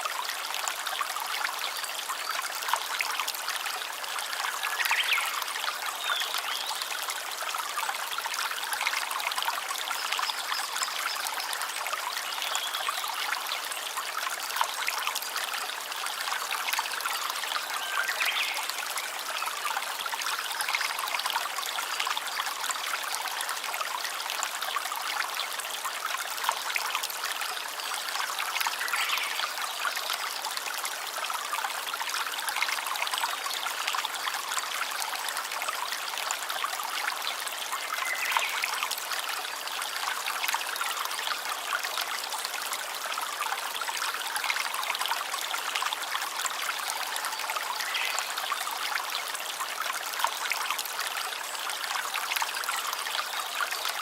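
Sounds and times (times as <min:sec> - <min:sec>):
water trickling and splashing: 0:00.0 - 0:54.0.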